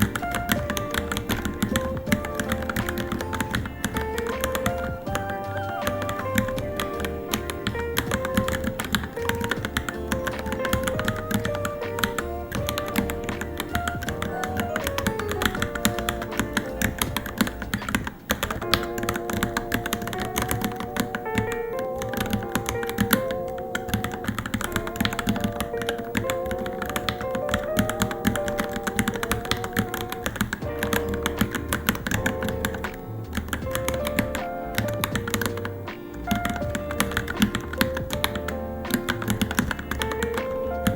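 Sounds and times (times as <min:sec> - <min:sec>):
background music with melody: 0:00.0 - 0:40.9
fast typing on mechanical keyboard: 0:00.0 - 0:40.9.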